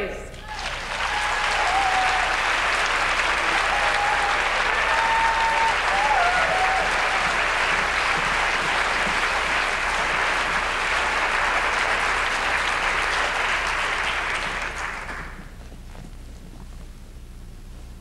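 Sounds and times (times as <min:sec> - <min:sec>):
faint low hum: 0:00.0 - 0:18.0
audience applauding: 0:00.4 - 0:15.5.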